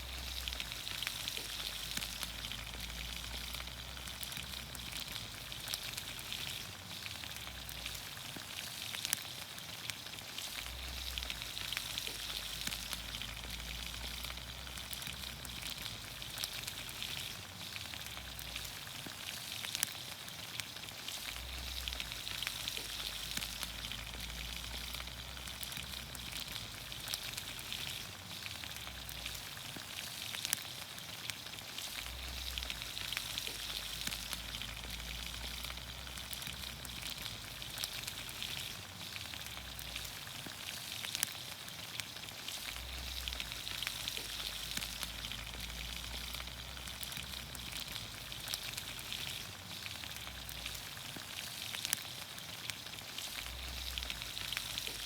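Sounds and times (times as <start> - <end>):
fire pops and crackles: 0.0 - 55.0
vegetables sizzling in oil: 0.0 - 55.0.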